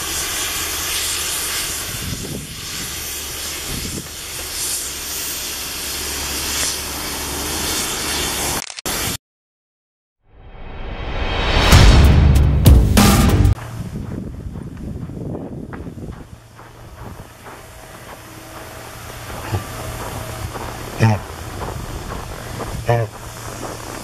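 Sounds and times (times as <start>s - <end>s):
wind rushing hiss: 0.0s - 9.2s, 13.5s - 24.0s.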